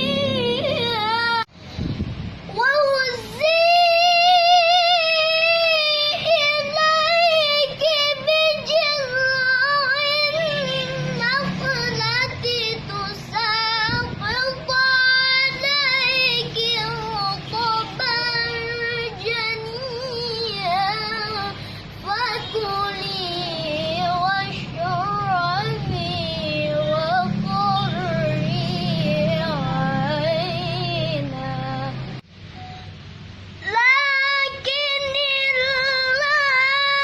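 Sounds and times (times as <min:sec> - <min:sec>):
boy reciting melodically: 0:00.0 - 0:01.6, 0:02.4 - 0:32.2, 0:33.6 - 0:37.0.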